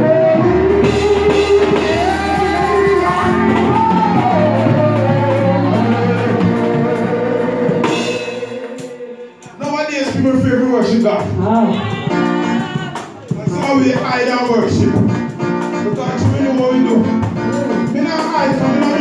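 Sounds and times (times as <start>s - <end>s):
bass notes: 0.0s - 19.0s
drum kit: 0.0s - 19.0s
voices singing gospel: 0.0s - 19.0s.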